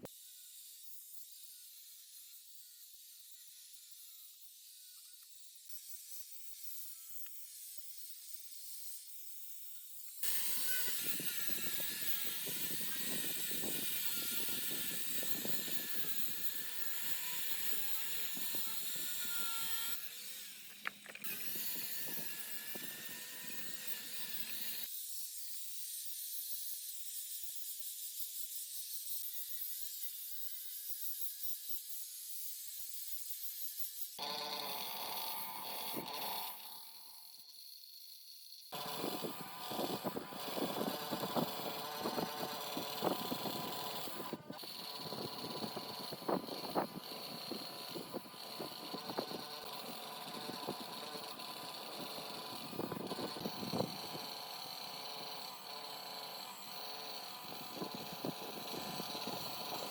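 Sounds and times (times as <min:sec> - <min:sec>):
power tool whining: 0:00.0 - 0:26.5, 0:28.1 - 0:59.9.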